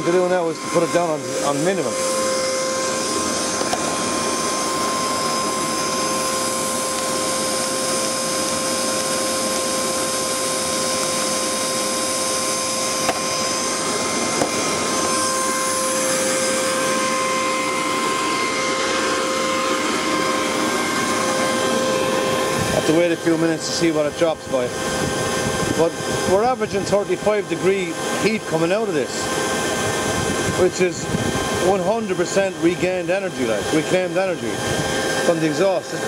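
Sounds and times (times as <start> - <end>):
air blower whirring: 0.0 - 36.0
diesel heater running: 0.0 - 36.0.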